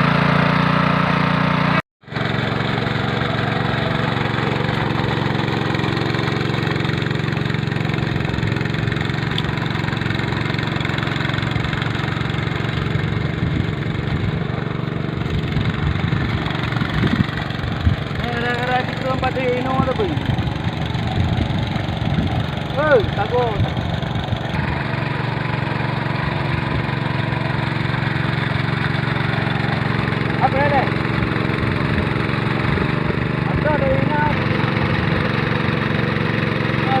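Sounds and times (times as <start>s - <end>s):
hand tractor engine running: 0.0s - 37.0s.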